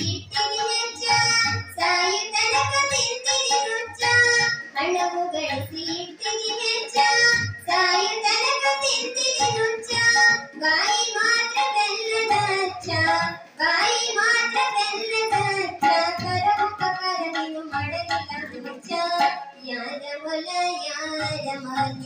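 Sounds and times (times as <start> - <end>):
low tabla strokes: 0.0 - 19.5.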